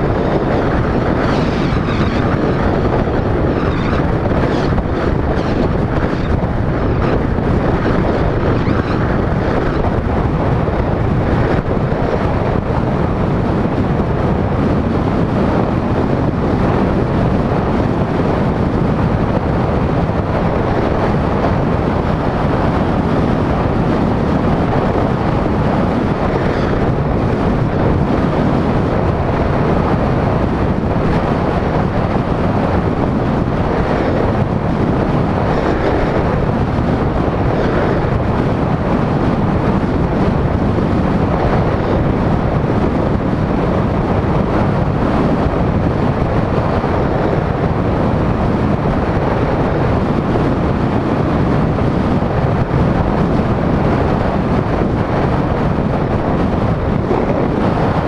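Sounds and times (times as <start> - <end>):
road and tyre noise: 0.0 - 58.0
wind rushing on microphone: 0.0 - 58.0.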